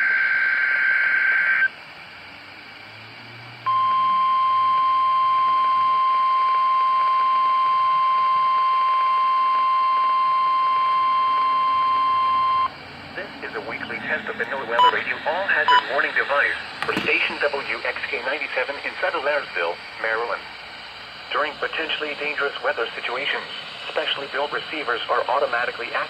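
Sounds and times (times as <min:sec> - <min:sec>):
steady warning alarm tone: 0:03.6 - 0:26.0.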